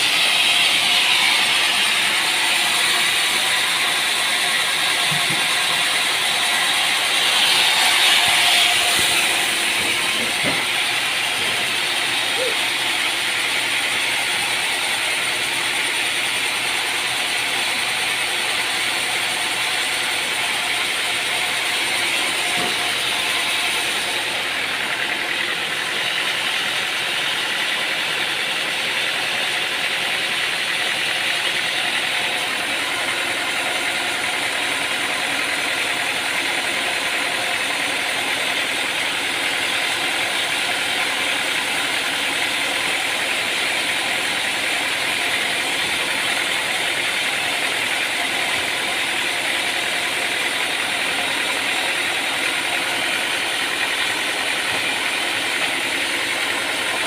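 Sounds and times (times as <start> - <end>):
sawmill machinery whirring: 0.0 - 57.0.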